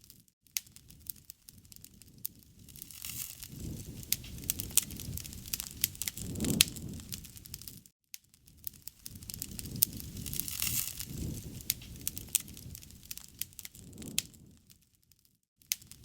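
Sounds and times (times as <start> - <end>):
wood fire crackling: 0.0 - 16.0
low rushing of flames: 0.1 - 14.8
sharp pops of fire: 0.1 - 14.8, 15.7 - 16.0.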